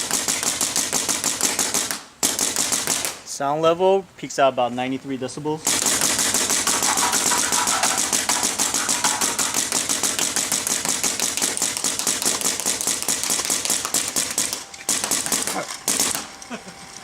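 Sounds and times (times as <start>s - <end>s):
paintball marker rapid firing: 0.0s - 3.2s, 5.6s - 16.3s.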